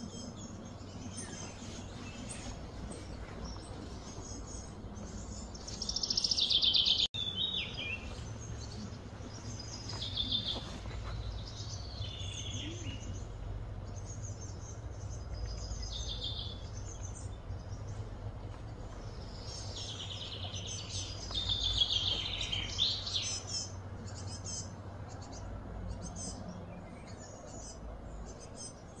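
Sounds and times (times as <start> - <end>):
low background rumble: 0.0 - 29.0
songbirds trilling: 0.0 - 29.0.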